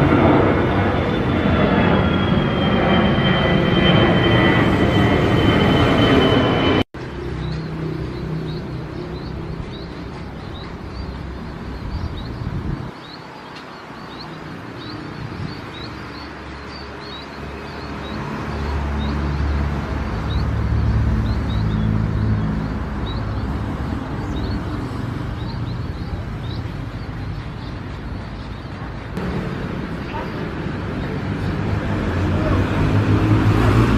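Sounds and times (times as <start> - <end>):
jet engine whine: 0.0 - 33.9
small birds chirping: 3.9 - 33.8.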